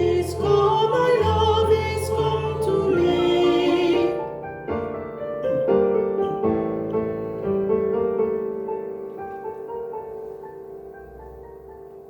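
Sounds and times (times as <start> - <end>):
piano playing: 0.0 - 12.0.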